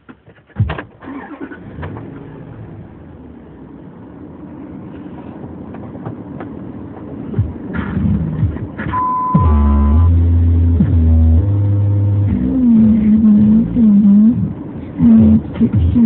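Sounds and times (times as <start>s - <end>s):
car engine starting and running: 0.0s - 16.0s.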